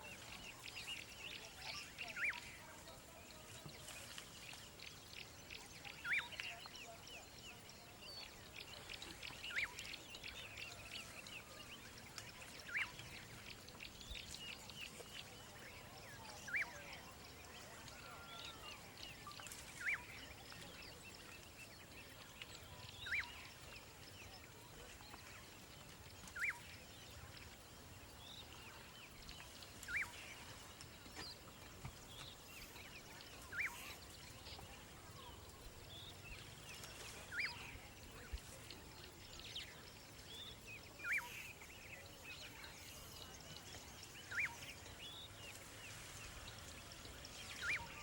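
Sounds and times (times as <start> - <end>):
faint bird chirps: 0.0 - 48.0.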